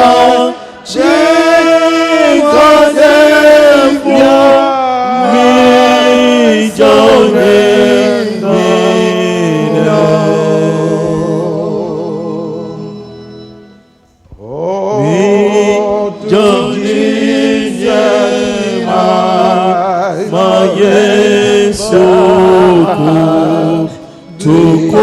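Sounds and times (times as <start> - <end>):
congregation singing a hymn: 0.0 - 13.5, 14.2 - 25.0.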